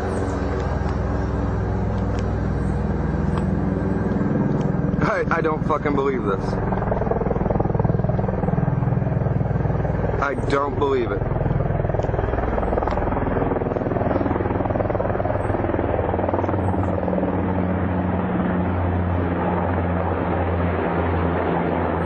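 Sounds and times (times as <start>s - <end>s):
helicopter rotor beating: 0.0s - 22.0s.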